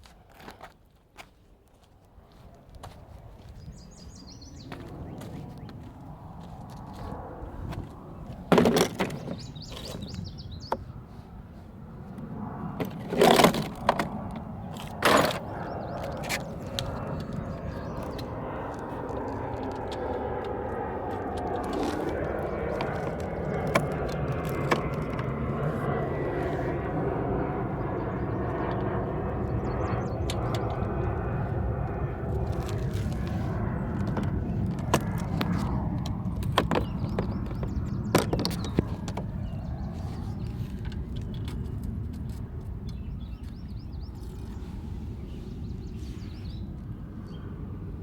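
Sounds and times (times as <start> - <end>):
vehicle rumble: 2.3 - 48.0.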